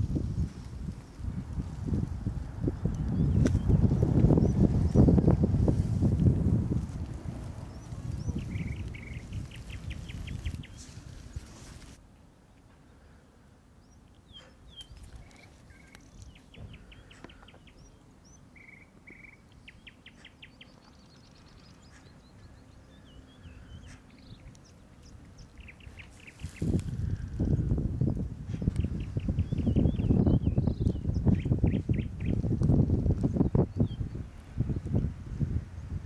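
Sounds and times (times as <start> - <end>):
wind buffeting microphone: 0.0 - 12.0, 14.6 - 17.8, 21.2 - 36.0
small birds trilling: 0.2 - 5.8, 6.4 - 12.0, 13.8 - 35.1.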